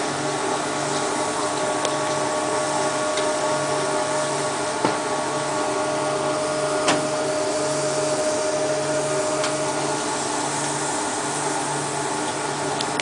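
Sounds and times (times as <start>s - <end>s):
press machine hiss and hum: 0.0s - 13.0s.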